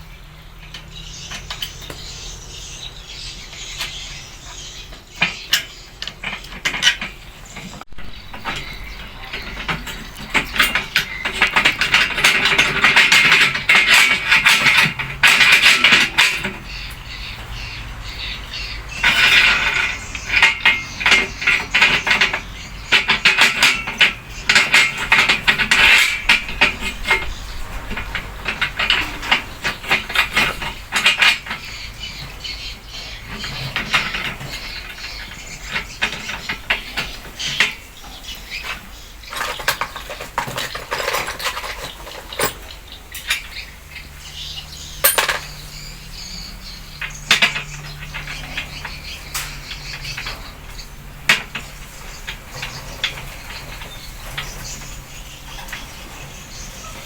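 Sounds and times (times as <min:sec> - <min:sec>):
metal clinking and scraping: 0:00.6 - 0:57.0.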